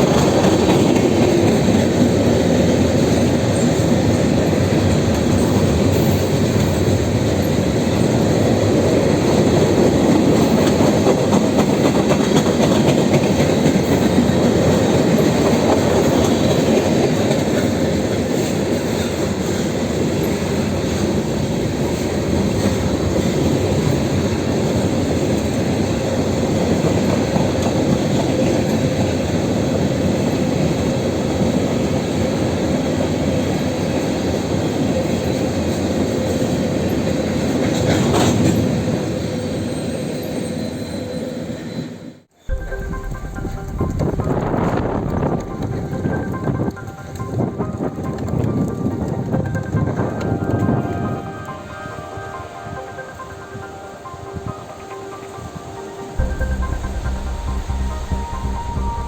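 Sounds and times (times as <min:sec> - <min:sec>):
train wheels on track: 0:00.0 - 0:59.0.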